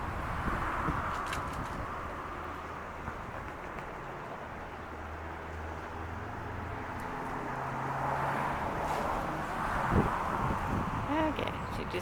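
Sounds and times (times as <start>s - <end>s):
tyre noise on road: 0.0s - 11.7s
vehicle engine hum passing: 0.0s - 12.0s.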